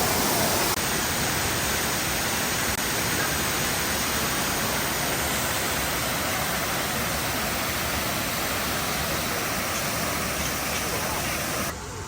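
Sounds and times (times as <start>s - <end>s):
steady rushing noise: 0.0s - 11.8s.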